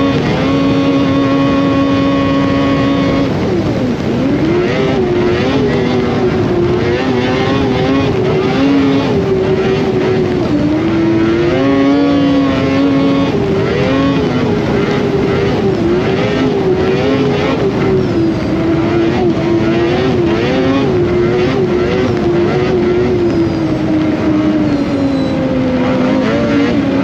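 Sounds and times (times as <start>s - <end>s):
snowmobile engine revving: 0.0s - 27.0s
steady rushing noise: 0.0s - 27.0s.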